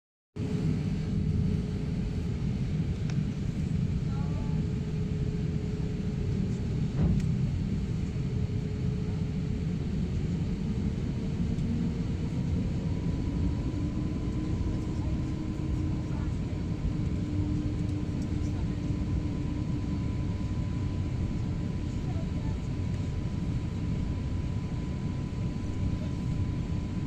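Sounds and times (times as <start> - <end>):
airliner cabin rumble: 0.4 - 27.0
constant hum: 0.4 - 27.0.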